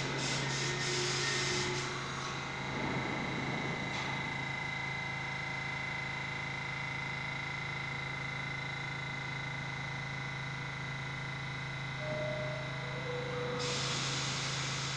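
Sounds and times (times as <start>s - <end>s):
high steady whine: 0.0s - 14.9s
train electrical hum: 0.0s - 14.9s.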